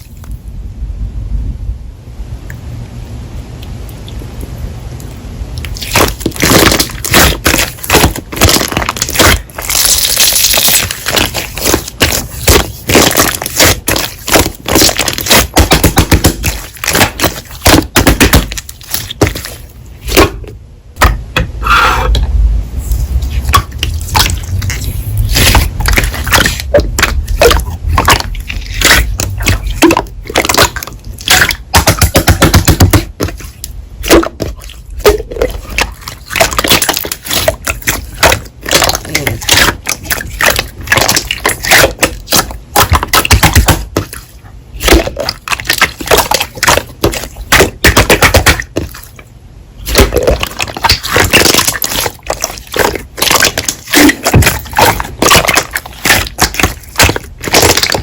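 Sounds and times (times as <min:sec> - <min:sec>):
slime squished by hand: 0:05.6 - 0:20.4, 0:22.8 - 0:58.0.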